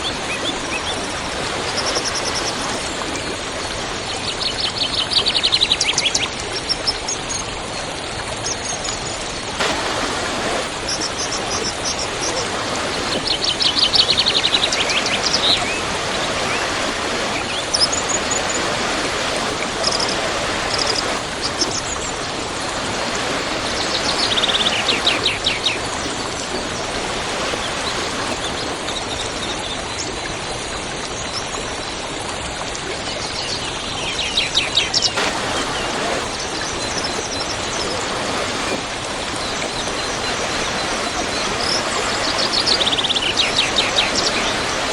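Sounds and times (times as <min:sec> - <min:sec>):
songbirds calling: 0:00.0 - 0:07.6, 0:08.3 - 0:30.3, 0:33.1 - 0:44.9
waterfall: 0:00.0 - 0:44.9.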